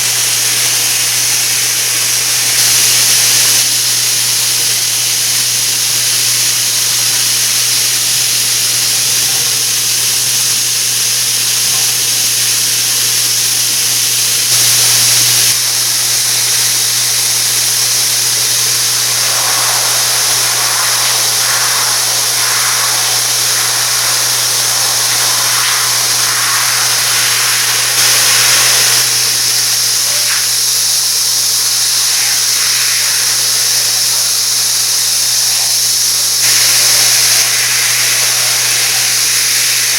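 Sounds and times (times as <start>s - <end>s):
shower head spraying water: 0.0s - 39.9s.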